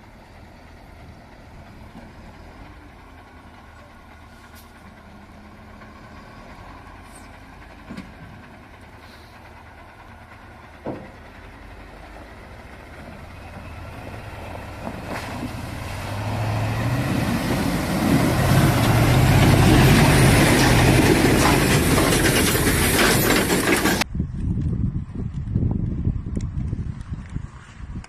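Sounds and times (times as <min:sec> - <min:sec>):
heavy vehicle engine running: 0:00.0 - 0:24.4.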